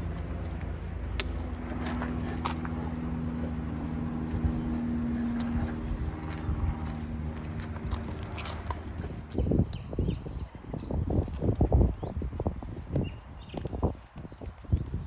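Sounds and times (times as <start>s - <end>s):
low engine-like hum: 0.0s - 13.5s.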